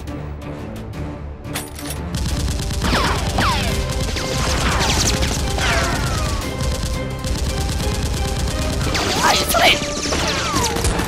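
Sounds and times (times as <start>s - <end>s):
background music with steady beat: 0.0s - 9.7s
rapid automatic gunfire: 2.1s - 11.0s.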